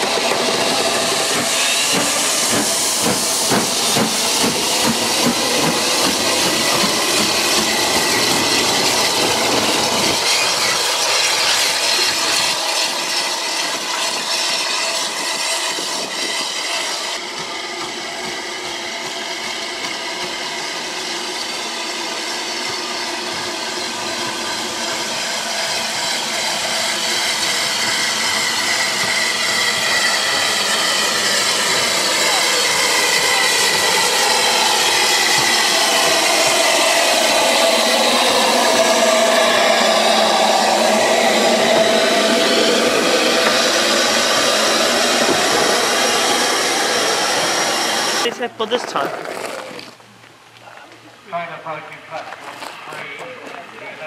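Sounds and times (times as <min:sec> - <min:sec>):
steam locomotive rhythmic beat: 0:00.0 - 0:48.4
steam hissing: 0:00.0 - 0:49.7.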